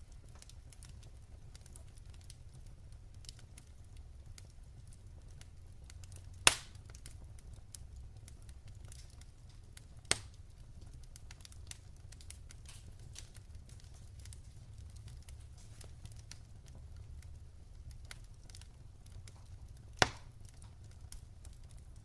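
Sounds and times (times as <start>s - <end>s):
fire crackling and popping: 0.0s - 22.0s
fire low rumble: 0.0s - 22.0s.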